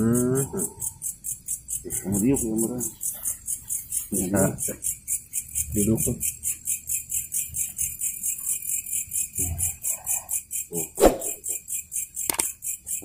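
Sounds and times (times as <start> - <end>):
small bells jingling: 0.0 - 13.0.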